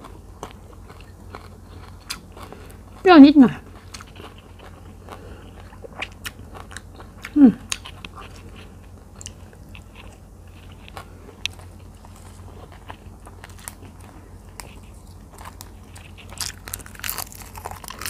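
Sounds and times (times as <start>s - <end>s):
close chewing: 0.0s - 18.0s
small food crunches: 0.0s - 18.0s.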